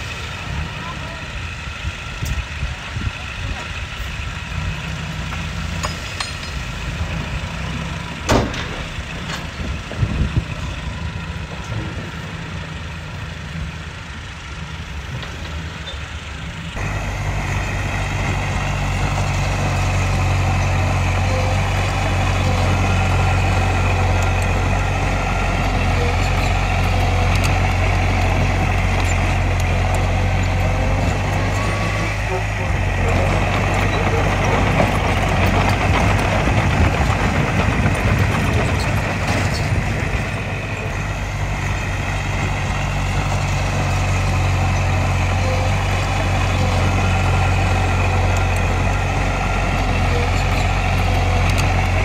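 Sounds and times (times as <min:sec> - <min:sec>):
bulldozer diesel engine under load: 0:00.0 - 0:52.0
dump truck diesel engine running: 0:00.0 - 0:52.0.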